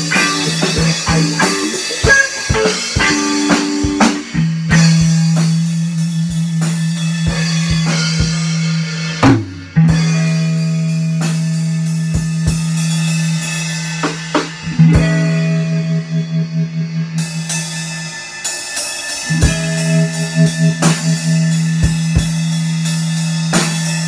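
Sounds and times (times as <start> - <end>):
drum kit steady beat: 0.0 - 24.0.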